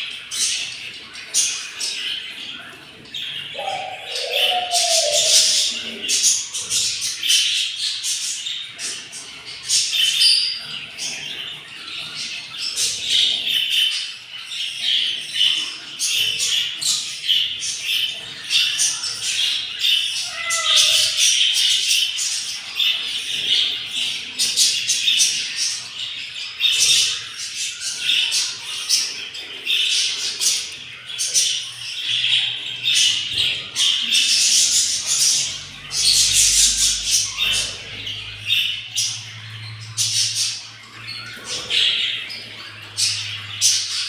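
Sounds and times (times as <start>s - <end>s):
budgies chirping and squawking: 0.0s - 44.0s.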